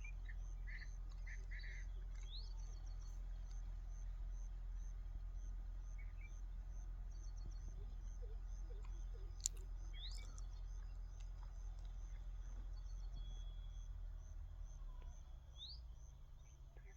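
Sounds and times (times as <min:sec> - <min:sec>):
low steady rumble: 0:00.0 - 0:16.9.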